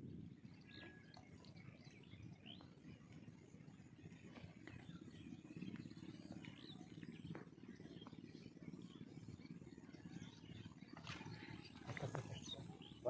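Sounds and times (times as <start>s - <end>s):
low steady rumble: 0.0s - 13.0s
faint bird chirps: 0.1s - 13.0s.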